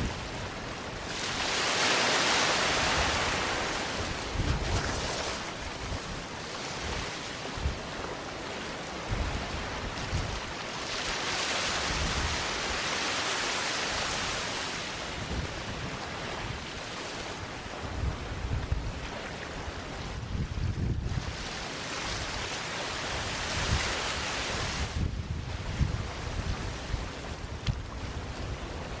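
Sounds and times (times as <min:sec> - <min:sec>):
waves washing onto beach: 0:00.0 - 0:29.0
wind rumble on microphone: 0:00.0 - 0:29.0.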